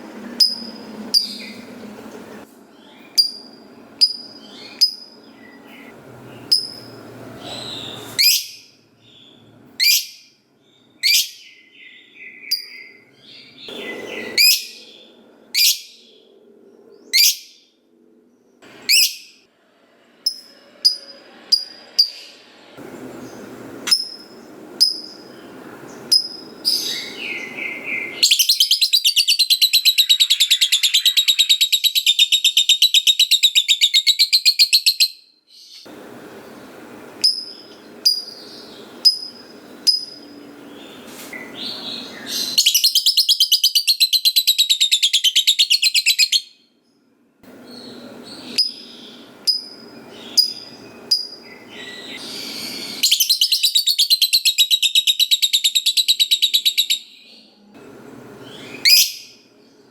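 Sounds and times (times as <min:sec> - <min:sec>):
lovebird chirping and trilling: 0:00.4 - 0:01.7, 0:02.8 - 0:16.2, 0:17.0 - 0:17.7, 0:18.8 - 0:19.4, 0:20.2 - 0:22.4, 0:23.3 - 0:35.9, 0:37.2 - 0:46.6, 0:47.6 - 0:57.4, 0:58.4 - 0:59.4.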